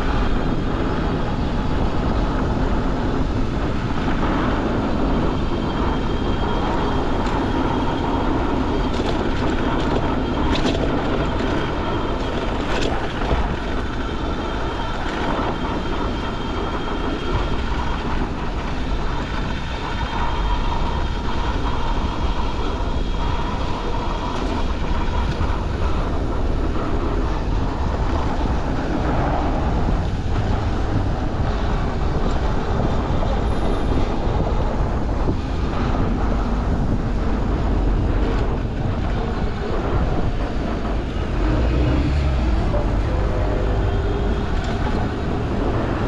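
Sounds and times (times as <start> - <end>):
street traffic: 0.0 - 46.0
streetcar running on rails: 0.0 - 46.0
wind rumble on microphone: 0.0 - 46.0.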